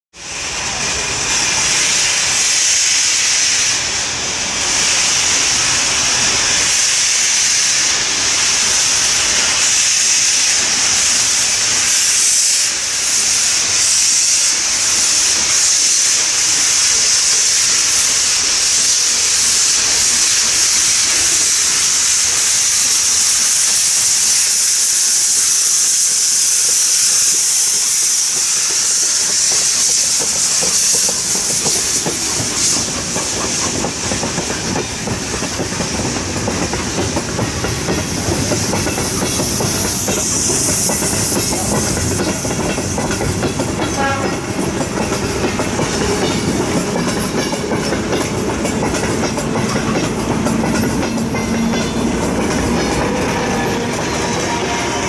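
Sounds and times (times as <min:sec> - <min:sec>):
steam locomotive hissing steam: 0:00.1 - 0:55.0.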